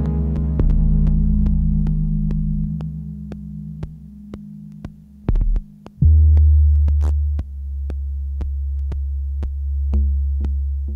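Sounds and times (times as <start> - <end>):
deep bass drone: 0.0 - 4.7, 5.4 - 10.9
ambient electronic music: 0.0 - 10.9.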